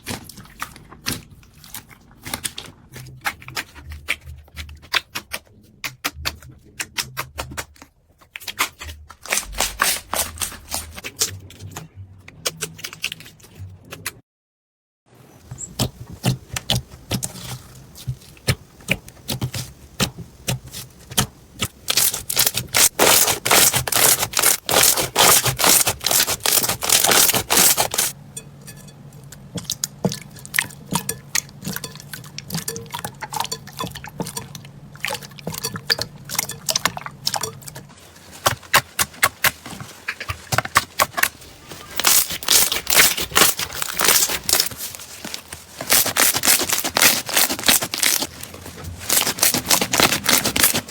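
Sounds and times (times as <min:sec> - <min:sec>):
slime squelching: 0:00.0 - 0:14.1, 0:15.5 - 0:50.9.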